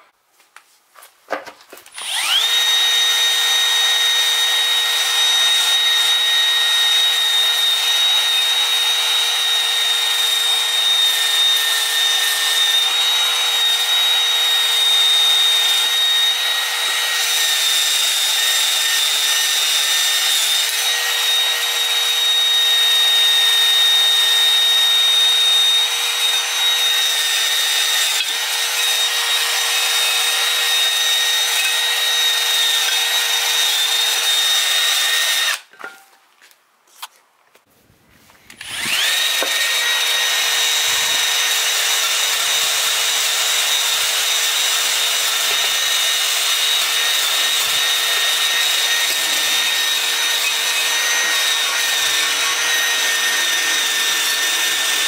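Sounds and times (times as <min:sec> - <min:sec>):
drill motor whine: 0:01.9 - 0:35.6, 0:38.6 - 0:55.0.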